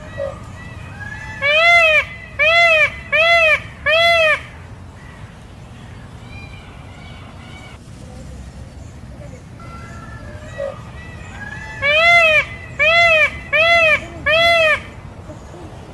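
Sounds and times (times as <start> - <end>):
peacock wailing calls: 0.0 - 7.8, 9.4 - 15.9.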